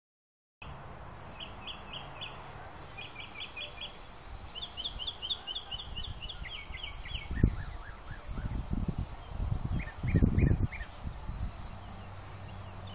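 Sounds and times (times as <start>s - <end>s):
bird chirping: 0.6s - 12.9s.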